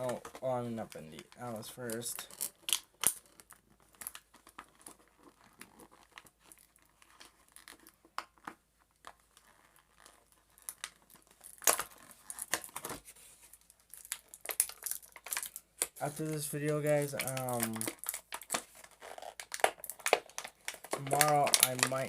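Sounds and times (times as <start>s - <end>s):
packaging crackling and rustling: 0.0s - 22.0s.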